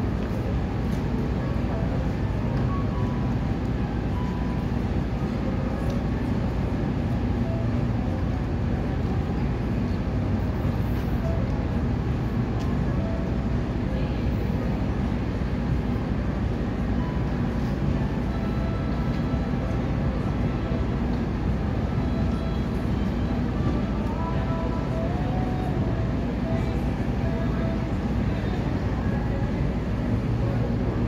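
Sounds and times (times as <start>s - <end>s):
low rumbling background noise: 0.0s - 31.0s.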